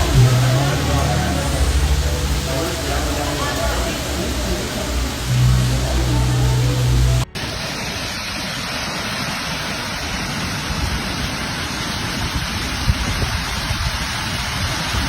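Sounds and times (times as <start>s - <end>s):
hail and heavy rain pelting: 0.0s - 15.0s.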